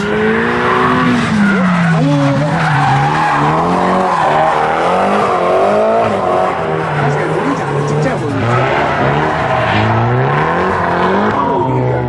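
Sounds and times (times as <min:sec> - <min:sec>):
car engine revving hard: 0:00.0 - 0:12.0
tyres skidding on tarmac: 0:00.0 - 0:12.0.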